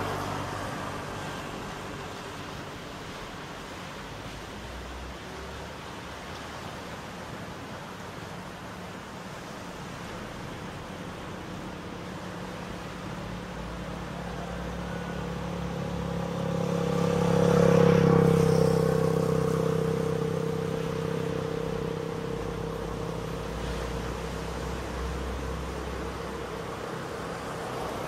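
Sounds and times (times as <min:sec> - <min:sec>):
engine passing by: 0:00.0 - 0:07.2, 0:09.3 - 0:28.0
small waves breaking: 0:00.0 - 0:28.0.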